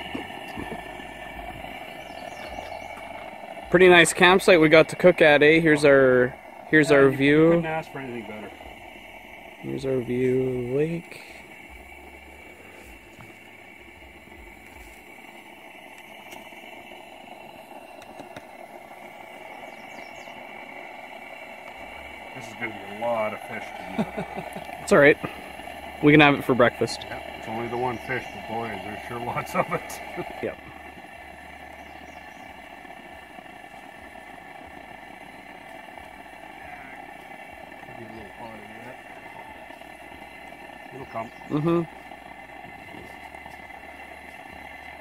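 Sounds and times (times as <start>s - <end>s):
oil hissing in frying pan: 0.0s - 45.0s.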